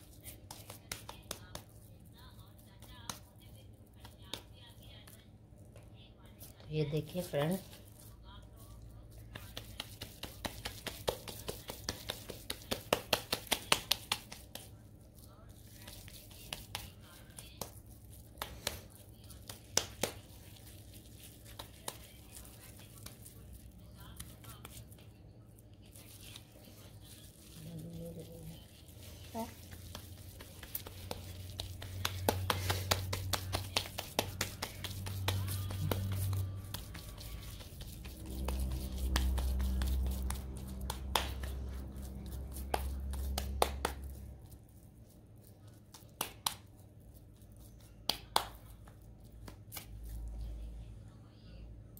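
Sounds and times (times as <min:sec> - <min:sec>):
hands slapping meat mixture: 0:00.0 - 0:05.2, 0:07.0 - 0:25.1, 0:25.9 - 0:44.8, 0:45.7 - 0:50.3
palms patting patties: 0:00.0 - 0:50.7
steady low hum: 0:00.0 - 0:51.9.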